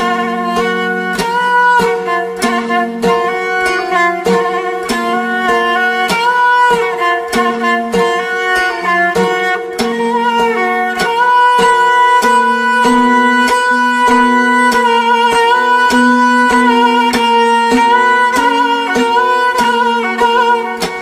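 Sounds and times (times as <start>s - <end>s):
bowed fiddle long notes: 0.0s - 21.0s
plucked zither strings: 0.0s - 21.0s.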